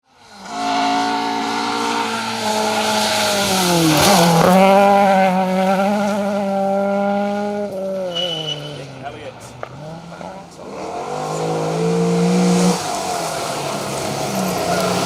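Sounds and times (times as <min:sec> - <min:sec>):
rally car engine revving: 0:00.2 - 0:15.0.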